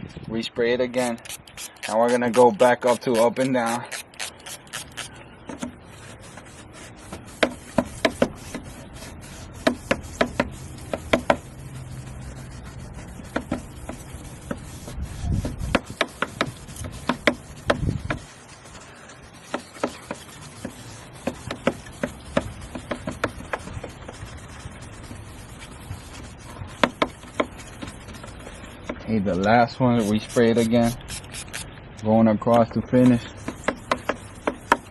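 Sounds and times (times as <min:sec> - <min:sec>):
hand sanding scrapes: 0:00.9 - 0:31.7, 0:32.5 - 0:34.9.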